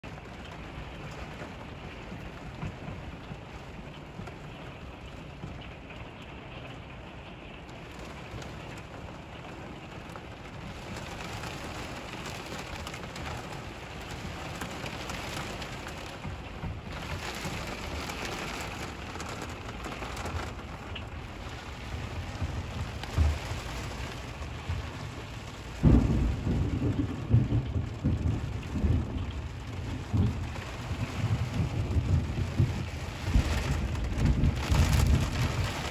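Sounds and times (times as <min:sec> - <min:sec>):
heavy rain pouring: 0:00.0 - 0:35.9
thunder clap and rumble: 0:00.0 - 0:35.9.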